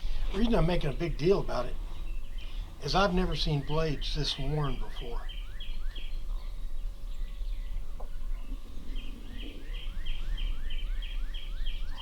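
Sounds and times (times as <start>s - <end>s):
songbird singing repeated notes: 0.0s - 12.0s.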